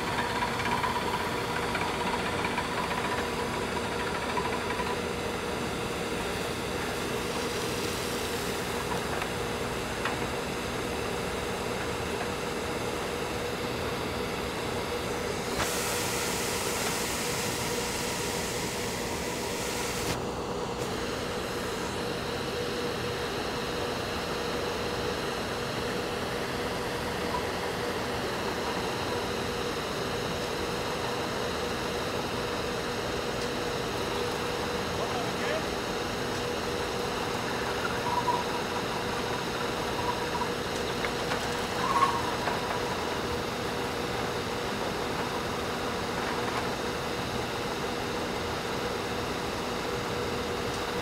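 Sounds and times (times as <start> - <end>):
drilling rig engine drone: 0.0 - 51.0.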